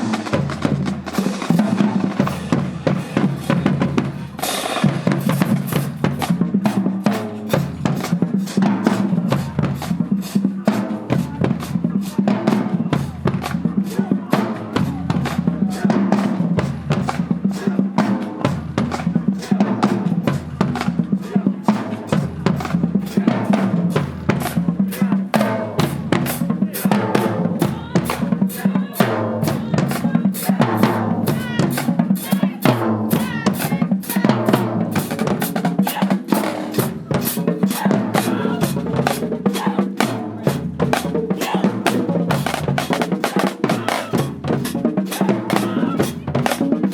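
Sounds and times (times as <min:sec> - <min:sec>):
bass drum beats: 0:00.0 - 0:46.9.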